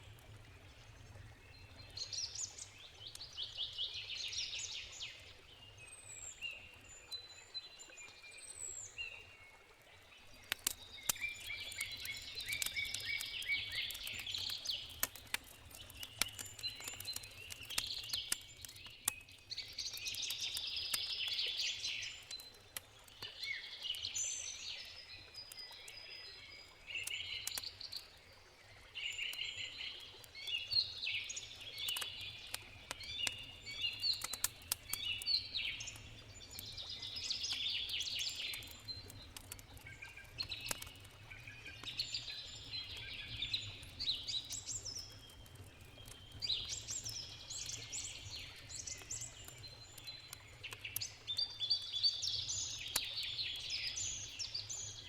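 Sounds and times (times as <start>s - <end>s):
campfire crackling: 0.0s - 7.1s, 9.6s - 55.0s
songbirds chirping: 0.0s - 55.0s.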